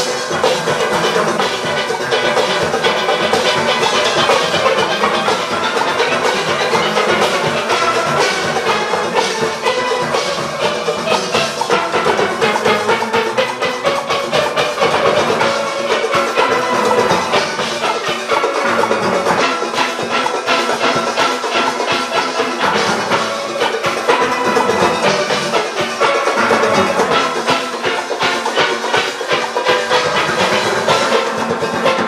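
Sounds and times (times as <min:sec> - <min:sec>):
drums and percussion: 0:00.0 - 0:32.0
steel pans playing rapid notes: 0:00.0 - 0:32.0.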